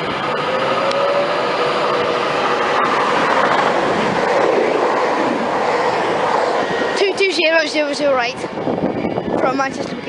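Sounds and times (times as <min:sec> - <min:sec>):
rail clatter: 0:00.0 - 0:08.7
train passing at speed: 0:00.0 - 0:10.0.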